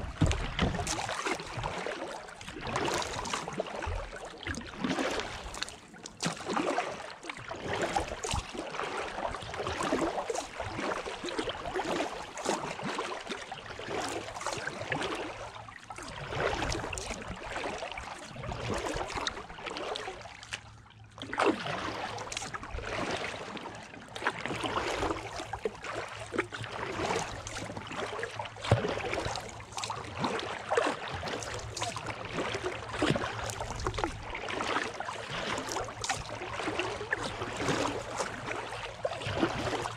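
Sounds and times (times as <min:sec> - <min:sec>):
water dripping from paddle: 0:00.0 - 0:08.6, 0:09.6 - 0:17.8, 0:18.7 - 0:23.0, 0:24.2 - 0:39.9
kayak paddle strokes in water: 0:00.0 - 0:39.9.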